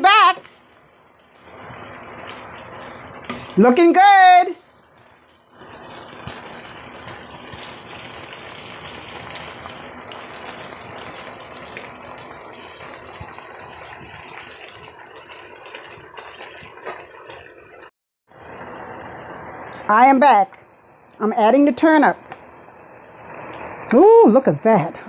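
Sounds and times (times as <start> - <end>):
broth bubbling in a pot: 0.0 - 25.0.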